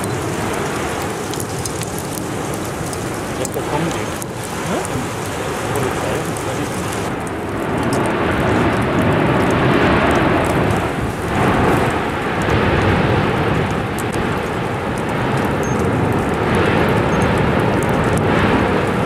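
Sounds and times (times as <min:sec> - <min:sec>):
faint crackles: 0:00.0 - 0:19.0
lava fountain roaring: 0:00.0 - 0:19.0.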